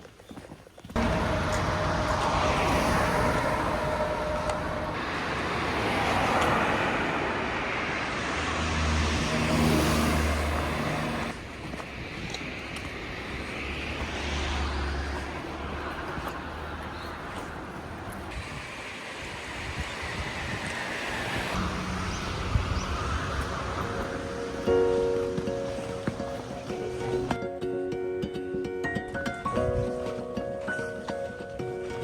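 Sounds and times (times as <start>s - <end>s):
vehicle rushing with low hum: 1.0s - 27.3s.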